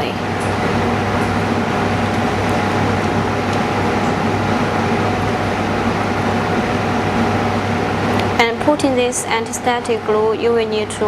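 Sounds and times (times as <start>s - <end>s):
steady mechanical hum with hiss: 0.0s - 11.0s.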